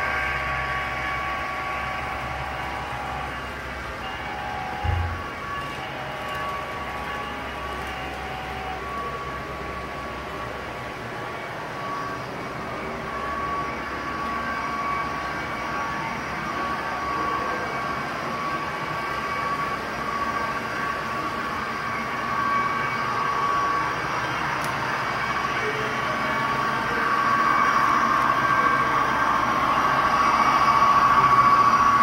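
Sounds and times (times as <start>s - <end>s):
model train motor whine: 0.0s - 32.0s
model train rolling rumble: 0.0s - 32.0s.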